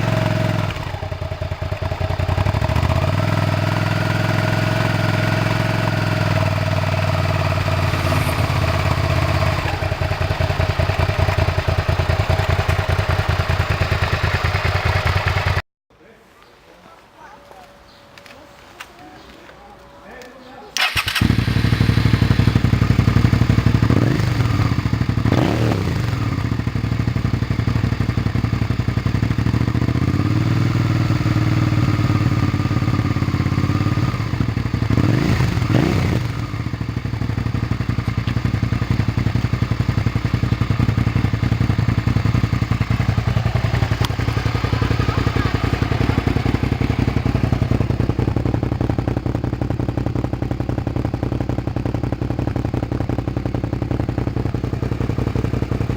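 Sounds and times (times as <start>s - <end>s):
motorcycle engine idling: 0.0s - 15.6s, 20.8s - 55.9s.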